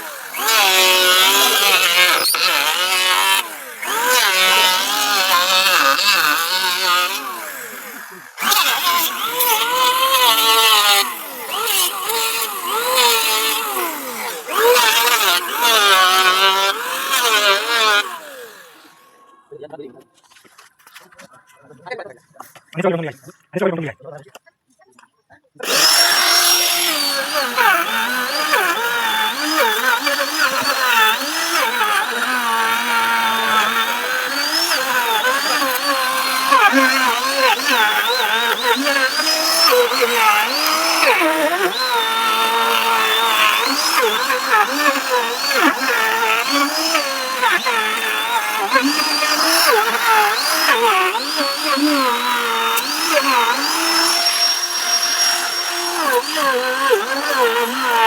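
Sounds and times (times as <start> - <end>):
power tool motor cutting wood: 0.0 - 19.4, 25.6 - 58.0.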